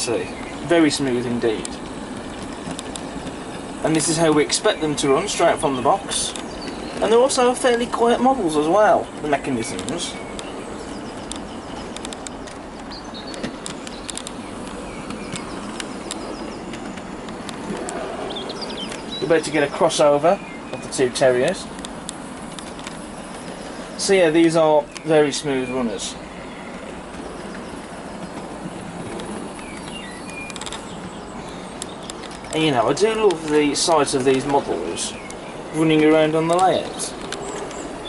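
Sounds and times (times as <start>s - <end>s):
model trains running on track: 0.0s - 38.0s
wheels clicking on rails: 0.0s - 38.0s.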